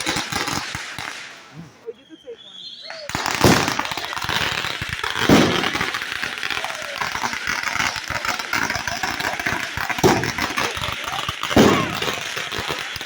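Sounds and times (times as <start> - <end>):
fireworks crackling pops: 0.0 - 13.0
fireworks loud bangs: 0.0 - 13.0.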